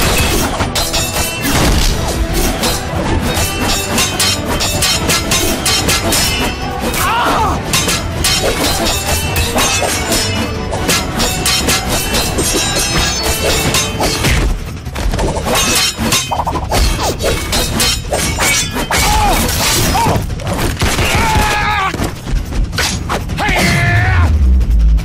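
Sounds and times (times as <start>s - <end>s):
blades clashing and slashing: 0.0s - 22.1s.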